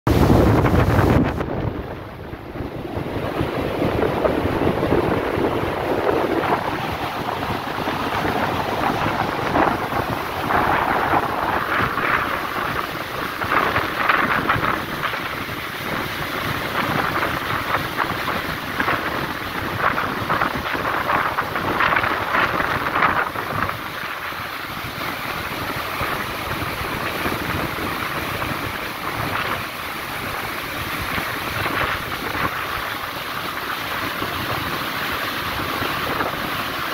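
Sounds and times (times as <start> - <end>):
ship wake water rushing: 0.1 - 36.9
wind on microphone: 0.1 - 36.9.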